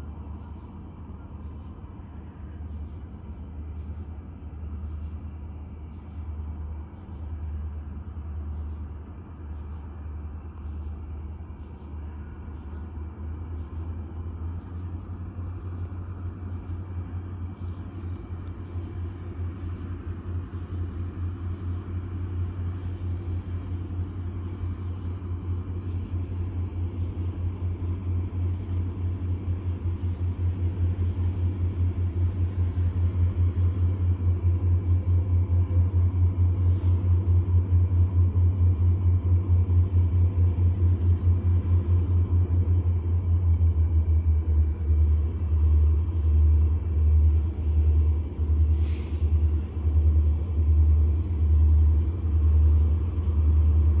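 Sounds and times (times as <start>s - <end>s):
diesel locomotive engine rumble: 0.0s - 54.0s.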